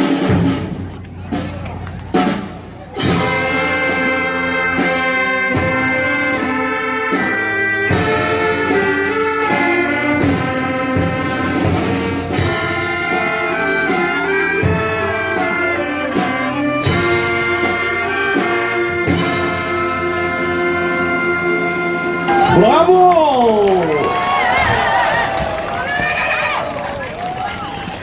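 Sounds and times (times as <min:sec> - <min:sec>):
wind orchestra playing: 0:02.2 - 0:22.7, 0:24.0 - 0:28.0.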